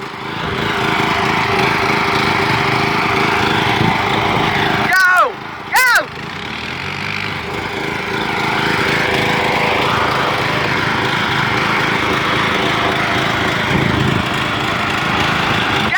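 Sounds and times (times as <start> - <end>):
riding lawn mower engine running: 0.0 - 15.9.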